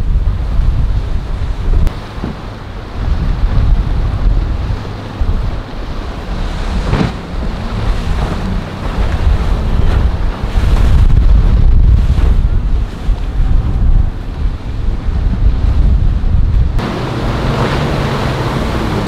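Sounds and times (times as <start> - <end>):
surf breaking: 0.0 - 19.0
wind buffeting microphone: 0.0 - 19.0.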